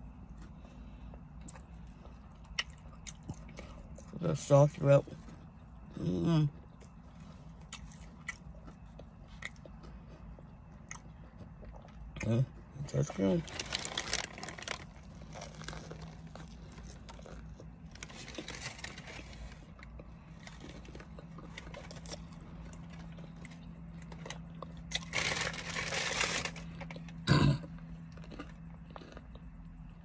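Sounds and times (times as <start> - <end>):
crunchy chewing: 0.0 - 30.0
steady low hum: 0.0 - 30.0.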